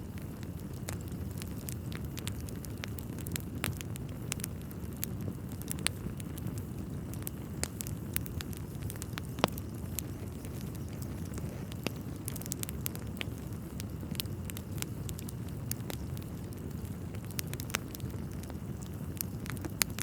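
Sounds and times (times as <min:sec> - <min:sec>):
low rumble of flames: 0:00.0 - 0:20.0.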